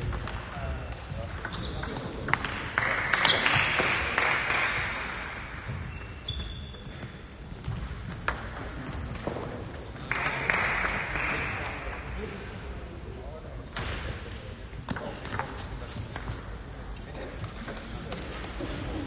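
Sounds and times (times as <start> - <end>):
sports hall noise: 0.0 - 19.0.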